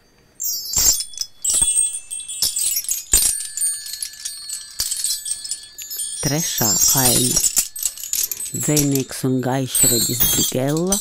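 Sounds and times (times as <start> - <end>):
metallic chimes tinkling: 0.0 - 11.0.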